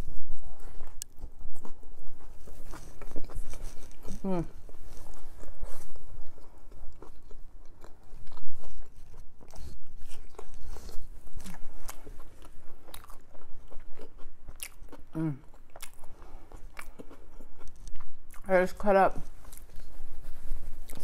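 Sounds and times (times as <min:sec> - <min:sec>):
person crunching food: 0:00.4 - 0:18.5.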